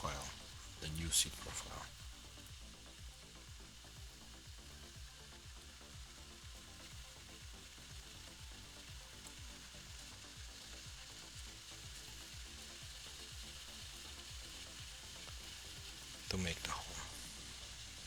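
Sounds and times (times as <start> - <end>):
constant hiss: 0.0 - 18.0
faint background music with beat: 0.0 - 18.0.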